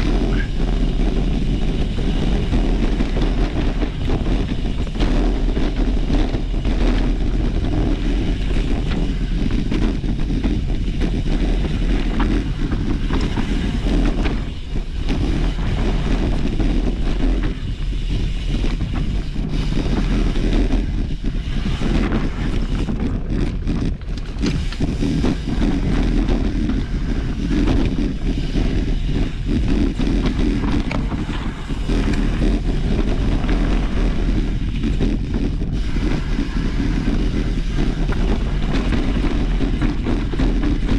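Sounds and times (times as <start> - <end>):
constant low rumble: 0.0 - 40.9
wind buffeting microphone: 0.0 - 40.9.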